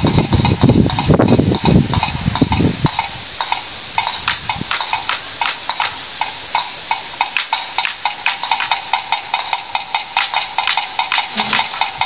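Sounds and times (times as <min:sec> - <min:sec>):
windmill bird scarer clacking: 0:00.0 - 0:12.0.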